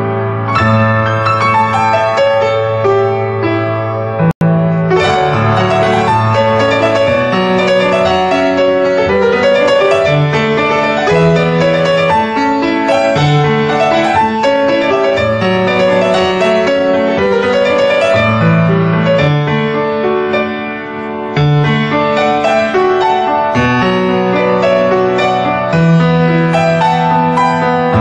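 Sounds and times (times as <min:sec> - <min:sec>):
solo grand piano: 0:00.0 - 0:28.0.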